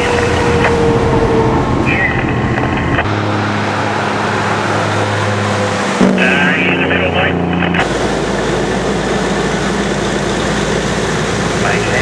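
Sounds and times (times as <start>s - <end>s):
loud rumbling noise: 0.0s - 12.0s
truck diesel engine running: 0.0s - 12.0s.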